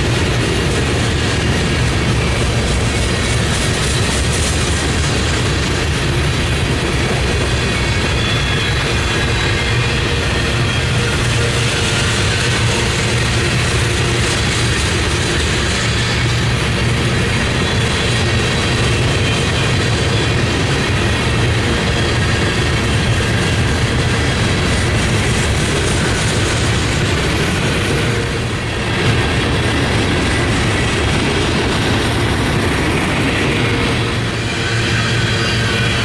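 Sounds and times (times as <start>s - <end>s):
train wheels rumbling and clattering: 0.0s - 36.0s.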